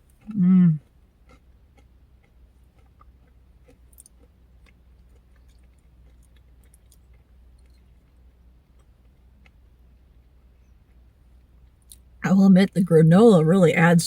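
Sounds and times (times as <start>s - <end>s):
faint chewing with mouth clicks: 0.0s - 12.2s.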